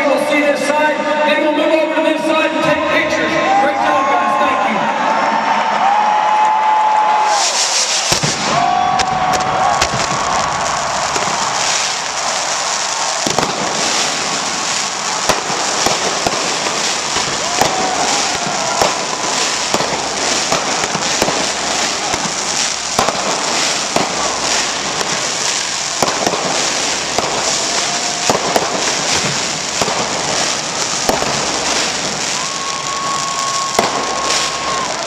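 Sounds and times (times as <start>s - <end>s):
fireworks crackling: 0.0s - 35.0s
fireworks pops and bangs: 5.9s - 35.0s.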